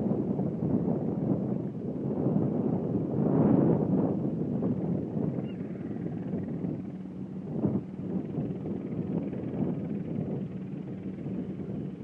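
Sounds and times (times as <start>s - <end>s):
airplane engine drone: 0.0s - 12.0s
wind buffeting microphone: 0.0s - 12.0s.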